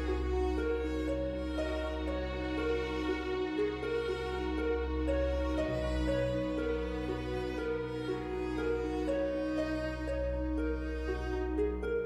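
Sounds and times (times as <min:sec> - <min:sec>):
low drone: 0:00.0 - 0:12.0
slow background music: 0:00.0 - 0:12.0.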